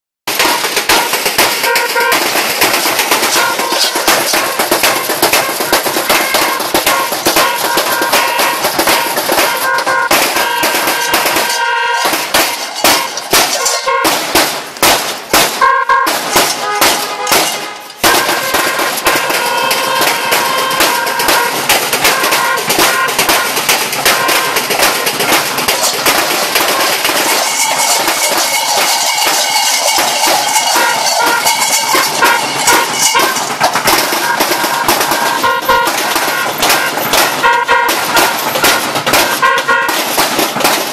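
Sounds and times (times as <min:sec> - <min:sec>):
fireworks crackling and popping: 0:00.3 - 0:40.9
steady ringing tones: 0:00.3 - 0:40.9.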